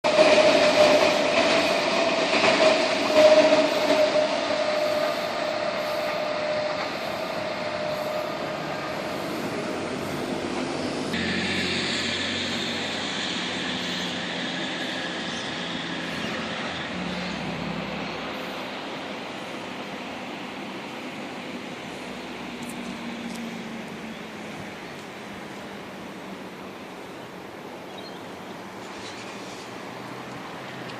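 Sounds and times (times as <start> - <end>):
train running on rails: 0.0 - 30.9
train wheels squealing on rails: 0.1 - 25.8, 27.9 - 30.9.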